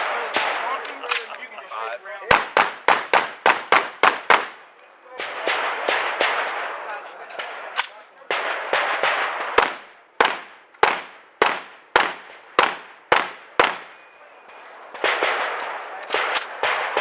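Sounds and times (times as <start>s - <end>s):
rifle shots: 0.0s - 1.3s, 2.3s - 4.6s, 5.2s - 13.9s, 14.9s - 17.0s.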